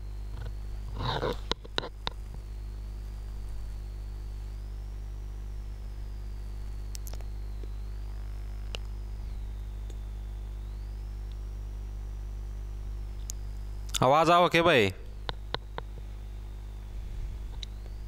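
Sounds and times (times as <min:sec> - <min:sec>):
electrical mains hum: 0:00.0 - 0:18.0
faint wavering high whine: 0:00.0 - 0:18.0.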